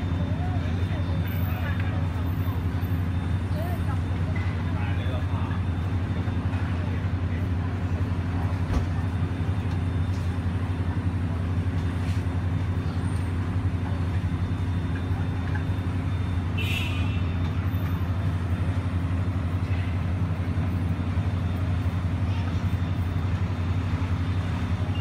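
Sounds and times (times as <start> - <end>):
city street noise hum: 0.0 - 25.0.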